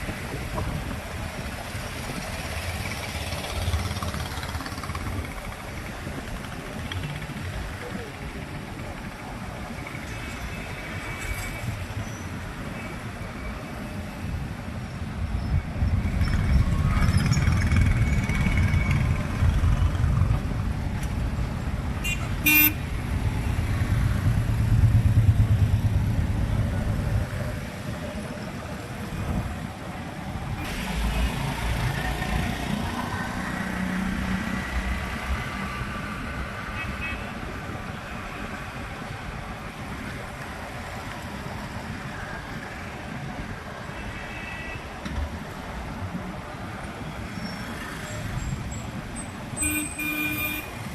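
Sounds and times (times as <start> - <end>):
engine and road rumble: 0.0 - 50.9.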